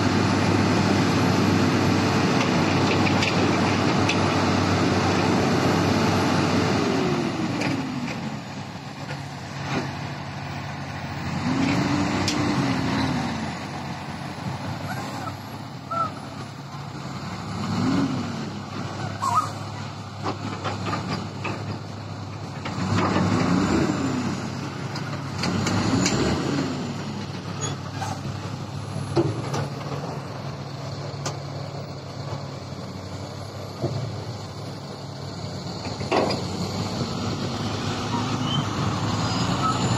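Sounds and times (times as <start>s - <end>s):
heavy diesel engines working: 0.0s - 39.9s.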